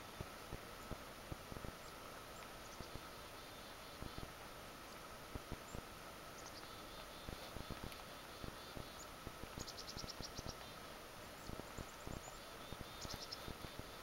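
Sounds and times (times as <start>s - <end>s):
small birds chirping: 1.7s - 14.0s.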